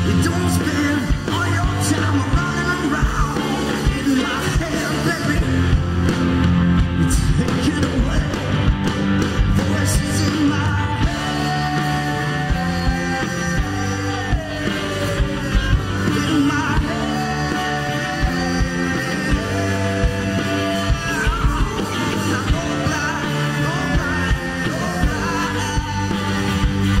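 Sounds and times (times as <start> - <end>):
person singing: 0.0 - 5.8, 9.5 - 27.0
drum kit: 0.0 - 27.0
electric bass: 0.0 - 27.0
electric guitars: 0.0 - 27.0
keyboard: 0.0 - 27.0.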